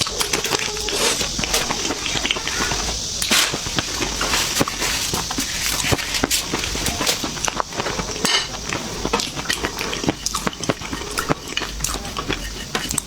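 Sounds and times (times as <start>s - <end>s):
utensils and dishes clattering: 0.0s - 13.0s.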